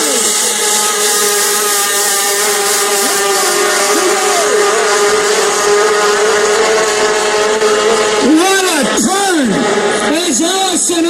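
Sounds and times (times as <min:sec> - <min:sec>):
engines passing by: 0:00.0 - 0:11.0
race boat engines at high revs: 0:00.0 - 0:11.0.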